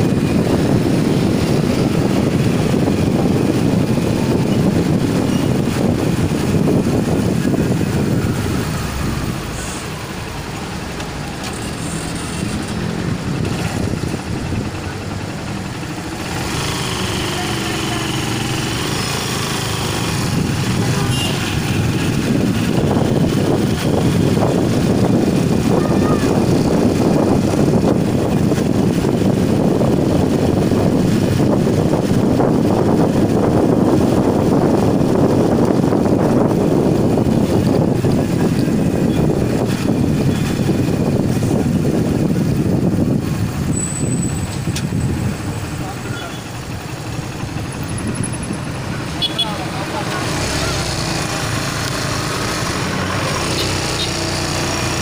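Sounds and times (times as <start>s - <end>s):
vehicle engine running: 0.0s - 55.0s
wind and road rumble: 0.0s - 55.0s.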